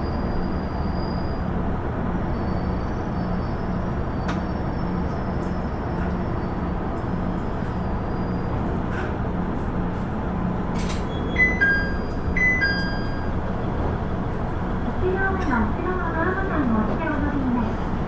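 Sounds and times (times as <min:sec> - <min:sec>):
railcar engine and wheels rumbling: 0:00.0 - 0:18.0.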